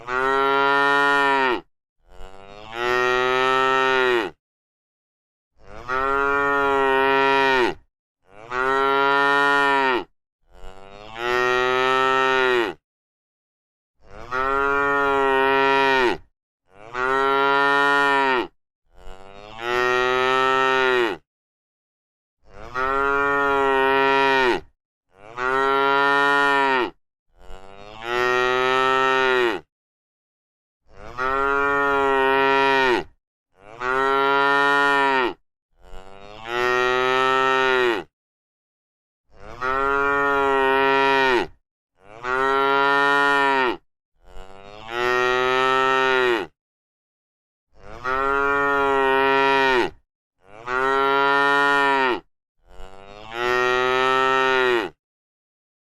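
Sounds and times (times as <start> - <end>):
cow mooing: 0.0 - 4.4, 5.7 - 12.8, 14.0 - 21.2, 22.5 - 29.7, 30.9 - 38.1, 39.4 - 46.6, 47.8 - 55.0.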